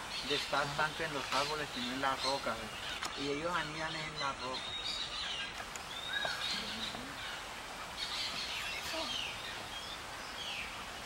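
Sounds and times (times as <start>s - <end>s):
background hiss: 0.0s - 11.0s
birds chirping: 0.0s - 11.0s.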